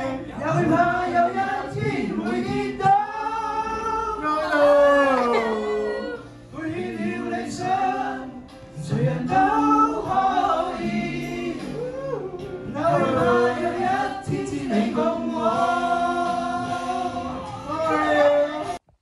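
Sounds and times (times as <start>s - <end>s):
man singing karaoke: 0.0s - 18.9s.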